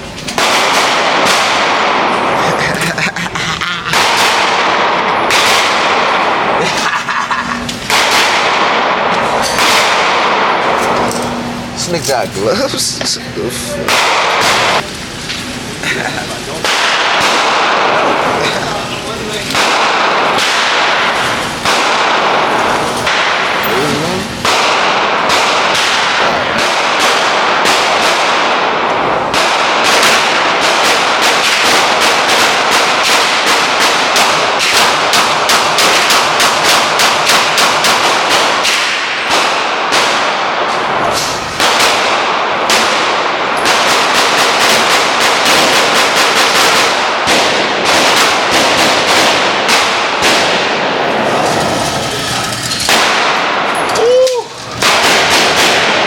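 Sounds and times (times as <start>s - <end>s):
gunshots echoing indoors: 0.0s - 11.8s, 13.9s - 56.0s.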